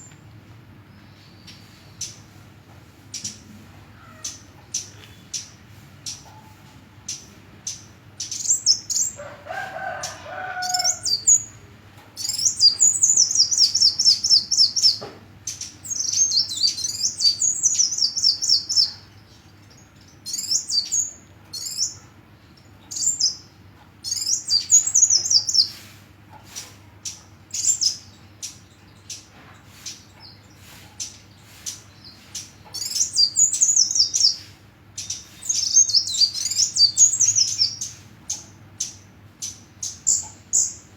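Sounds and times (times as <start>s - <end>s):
bird twittering trills: 3.1s - 25.8s, 26.5s - 40.9s.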